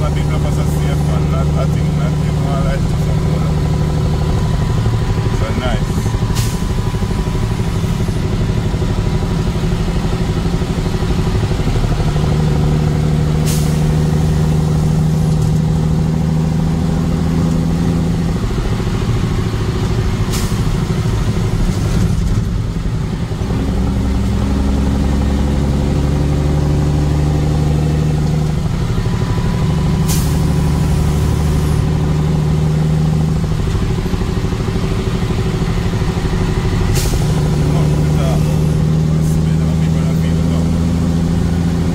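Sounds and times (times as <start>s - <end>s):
vehicle engine and road drone: 0.0s - 41.9s.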